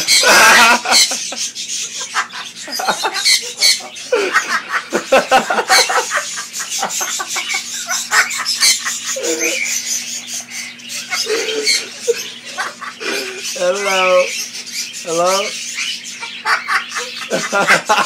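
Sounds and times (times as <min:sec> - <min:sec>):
parrot mimicking laughter: 0:00.0 - 0:14.3, 0:15.8 - 0:18.0.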